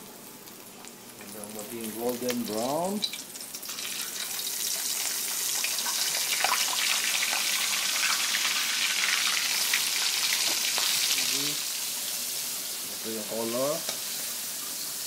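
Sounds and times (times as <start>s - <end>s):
shrimp deep-frying in hot oil: 0.0s - 15.0s.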